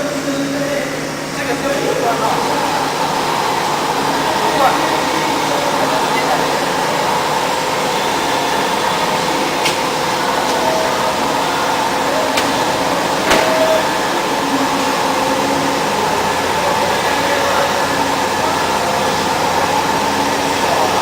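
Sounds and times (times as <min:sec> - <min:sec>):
drilling machine whirring hiss: 0:00.0 - 0:21.0.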